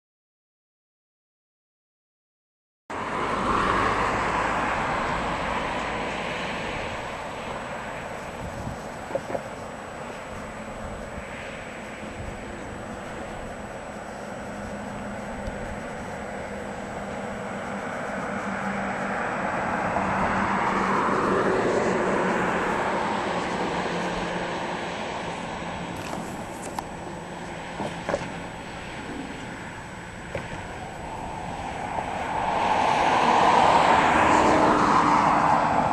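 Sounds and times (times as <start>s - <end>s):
vehicle passing on street: 2.9s - 35.9s.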